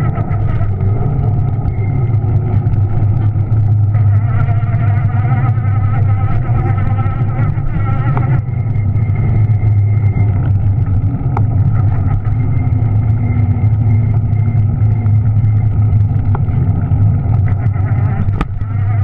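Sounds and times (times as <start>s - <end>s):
electric motor hum and whine: 0.0s - 19.0s.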